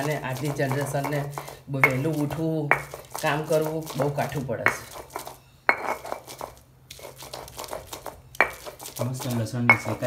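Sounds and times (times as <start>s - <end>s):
pestle scraping on stone slab: 0.0s - 10.0s.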